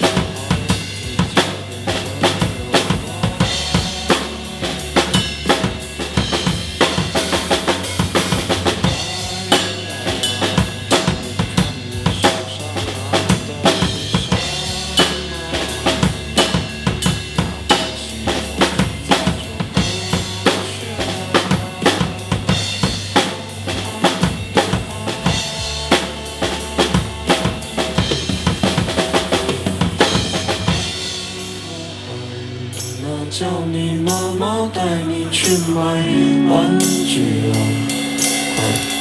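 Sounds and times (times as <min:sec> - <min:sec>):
drum kit played hard and fast: 0:00.0 - 0:39.0
guitar and bass backing track: 0:00.0 - 0:39.0.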